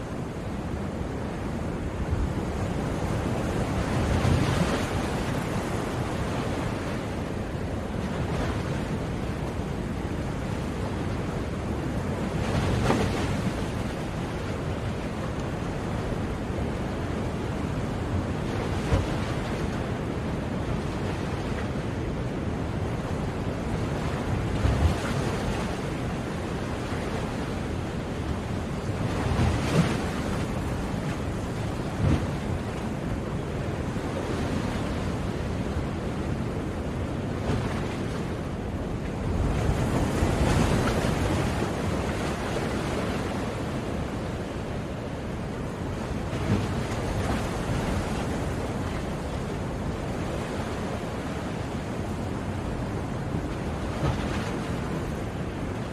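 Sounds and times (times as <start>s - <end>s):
ocean waves washing onto shore: 0.0s - 55.9s.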